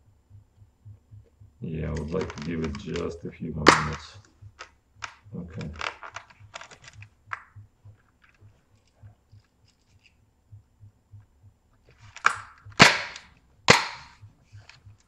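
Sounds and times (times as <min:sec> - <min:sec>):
faint clicks: 0:00.0 - 0:15.0.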